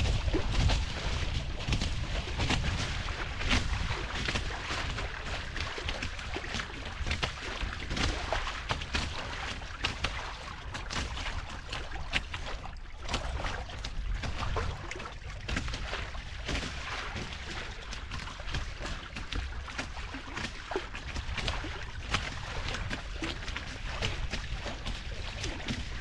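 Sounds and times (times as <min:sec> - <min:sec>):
water slapping against hulls: 0:00.0 - 0:26.0
wind rumble on microphone: 0:00.0 - 0:26.0.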